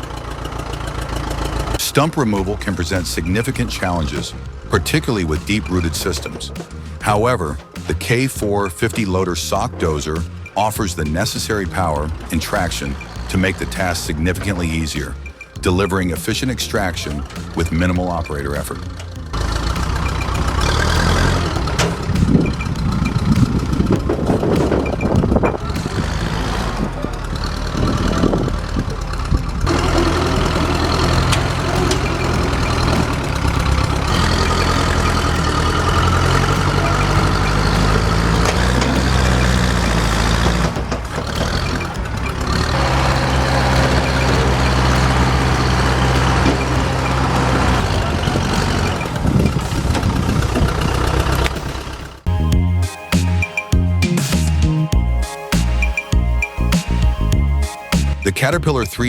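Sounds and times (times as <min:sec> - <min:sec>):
heavy diesel engine under load: 0:00.0 - 0:52.7.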